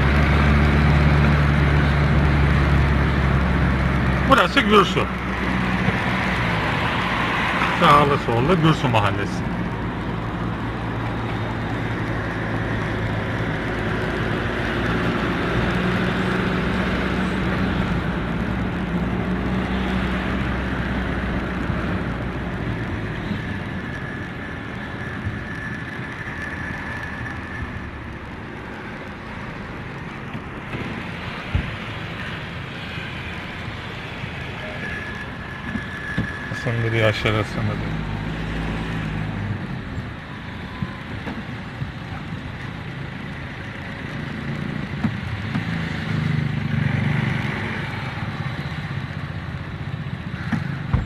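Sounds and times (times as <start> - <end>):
car engine hum: 0.0 - 51.0
tyre and road noise: 0.0 - 51.0.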